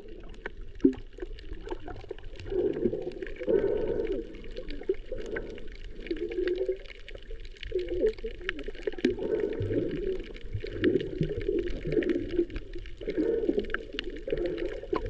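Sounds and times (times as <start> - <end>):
small clicks and crackles: 0.0 - 15.0
water swishing and gurgling underwater: 0.0 - 15.0.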